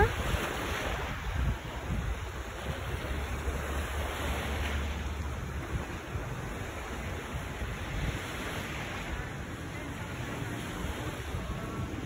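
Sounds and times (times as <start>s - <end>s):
surf on sandy beach: 0.0s - 12.0s
wind buffeting microphone: 0.0s - 12.0s.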